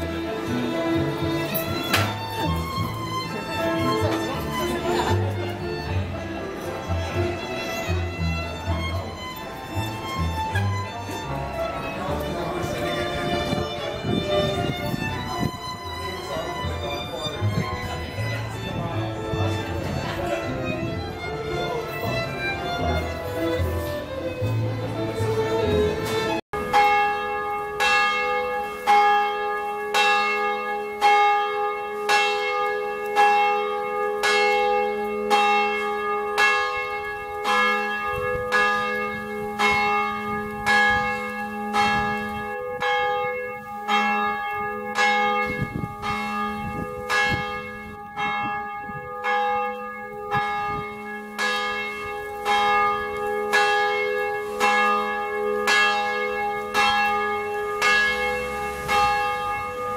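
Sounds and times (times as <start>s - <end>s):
church bell ringing: 0.0s - 59.9s.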